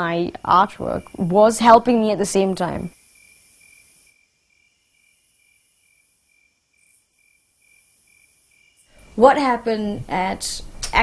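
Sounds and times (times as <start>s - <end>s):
cricket chirping: 0.0s - 9.6s.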